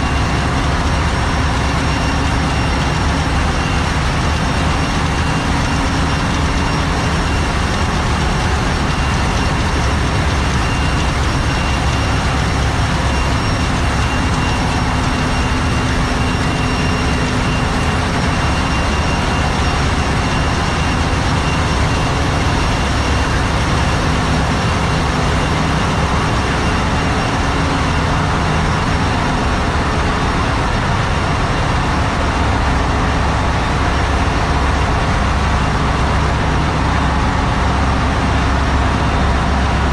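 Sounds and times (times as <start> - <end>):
engine room machinery rumble: 0.0 - 39.9.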